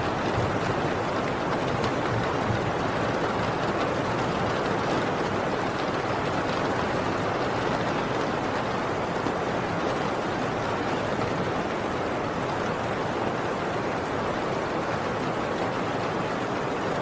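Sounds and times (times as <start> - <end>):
heavy rain on a tin roof: 0.0 - 17.0.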